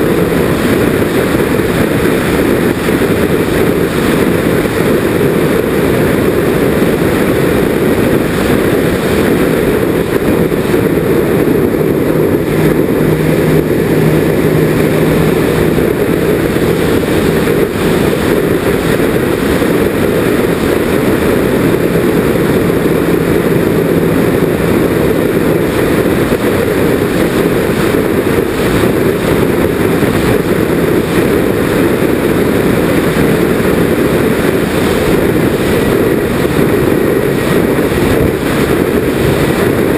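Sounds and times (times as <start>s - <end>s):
airflow rush: 0.0s - 39.9s
propeller motors droning: 0.0s - 39.9s.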